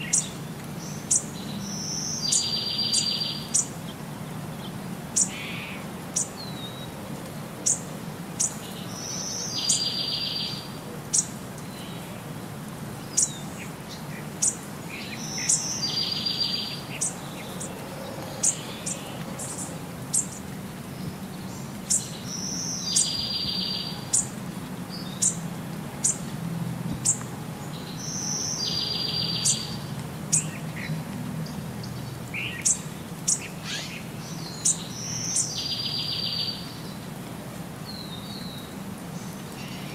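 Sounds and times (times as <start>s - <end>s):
birds chirping and trilling: 0.0s - 6.9s, 7.6s - 12.1s, 13.0s - 25.4s, 26.0s - 26.3s, 27.0s - 37.0s.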